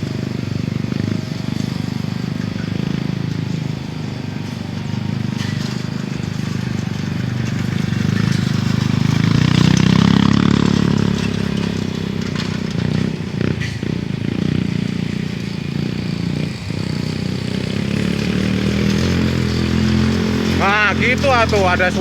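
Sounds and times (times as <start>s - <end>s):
motorcycle engine under throttle: 0.0s - 22.0s.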